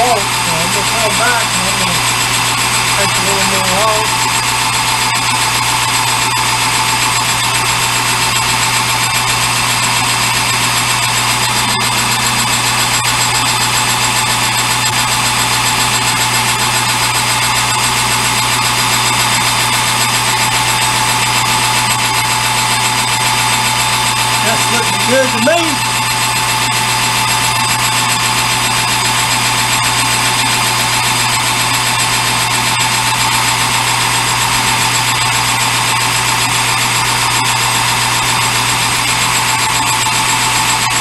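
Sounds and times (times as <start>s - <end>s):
machine tool cutting metal: 0.0s - 41.0s
steady whine: 0.0s - 41.0s.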